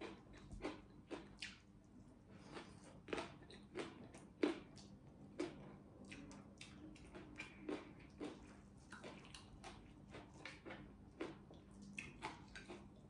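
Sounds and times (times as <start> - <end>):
wet chewing smacks and clicks: 0.0 - 1.7, 2.4 - 13.0.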